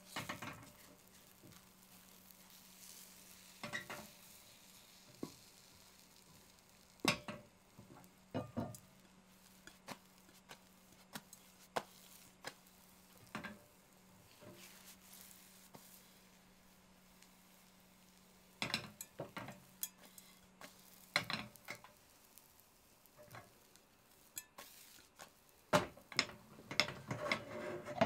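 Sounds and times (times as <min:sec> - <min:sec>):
faint egg sizzling: 0:00.0 - 0:27.4
spatula against pan: 0:00.0 - 0:28.0.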